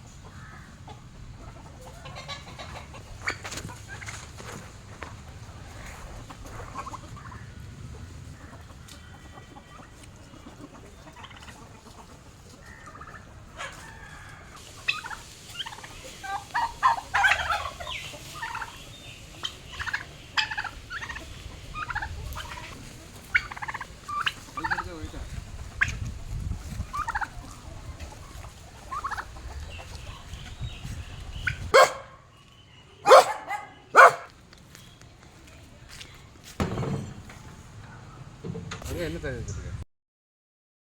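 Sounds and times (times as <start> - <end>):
hens clucking: 0.0 - 39.2.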